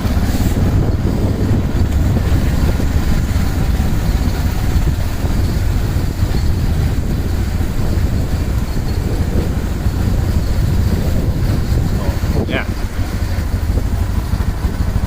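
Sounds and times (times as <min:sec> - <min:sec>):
motorcycle engine rumble: 0:00.0 - 0:15.0
wind buffeting microphone: 0:00.0 - 0:15.0.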